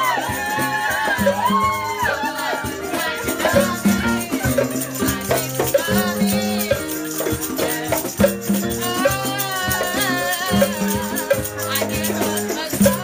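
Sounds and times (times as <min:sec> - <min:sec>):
music with shaker and bass: 0:00.0 - 0:13.0.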